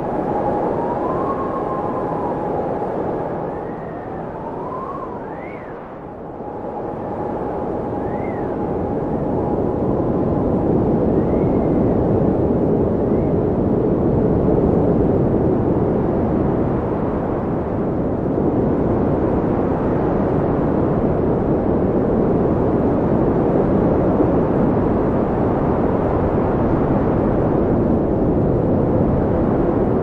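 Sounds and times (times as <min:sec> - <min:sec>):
wind blowing: 0:00.0 - 0:30.0.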